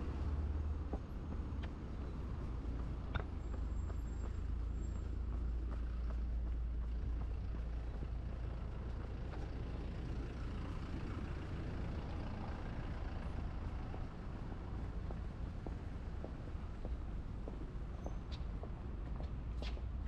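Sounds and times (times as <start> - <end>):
large vehicle engine rumbling: 0.0 - 20.0
street noise: 0.0 - 20.0.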